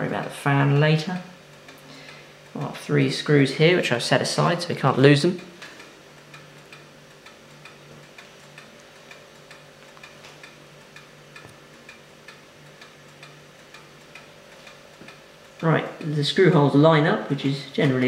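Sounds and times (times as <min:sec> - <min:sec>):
faint steady hum: 0:00.0 - 0:18.0
light ticking: 0:00.0 - 0:18.0.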